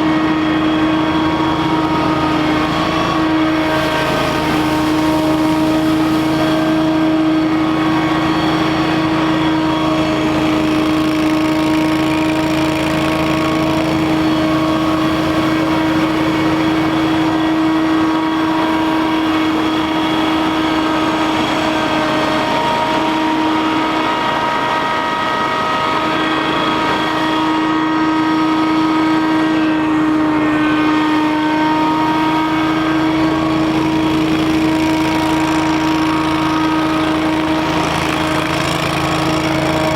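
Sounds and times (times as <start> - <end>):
leaf blower droning: 0.0 - 39.9.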